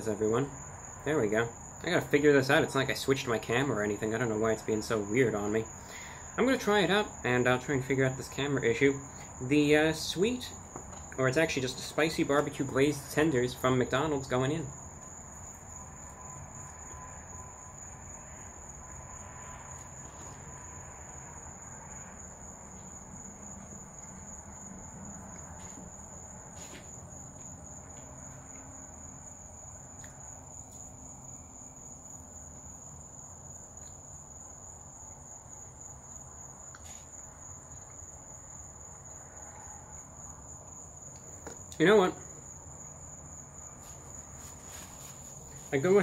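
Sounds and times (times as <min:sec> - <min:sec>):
night insects trilling: 0:00.0 - 0:46.0.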